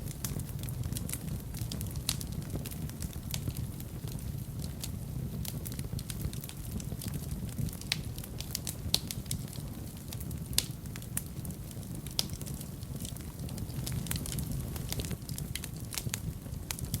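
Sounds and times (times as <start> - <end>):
fire crackling: 0.0 - 17.0
low fire rumble: 0.0 - 17.0
sharp fire pops: 0.0 - 17.0.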